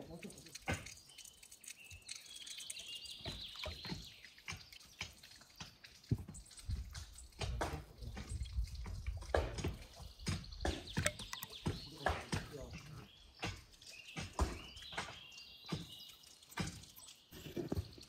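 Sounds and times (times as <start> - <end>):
liquid pouring into bowl: 0.0 - 18.0
spatula stirring and tapping glass: 0.0 - 18.0.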